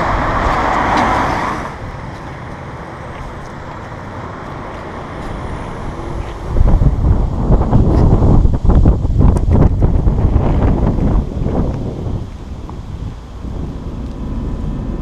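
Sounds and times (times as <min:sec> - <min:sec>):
car passing: 0:00.0 - 0:15.0
traffic hiss: 0:00.0 - 0:15.0.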